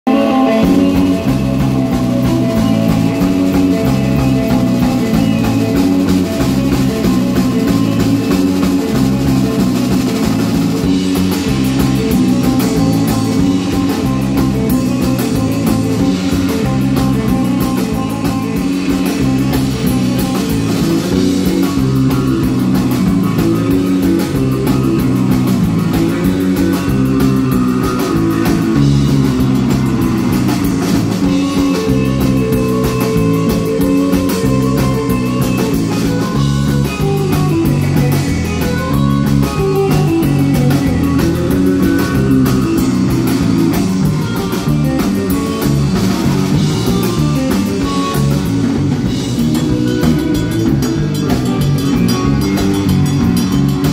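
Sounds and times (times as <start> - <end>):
drum kit: 0.0 - 53.9
electric bass: 0.0 - 53.9
electric guitar: 0.0 - 53.9.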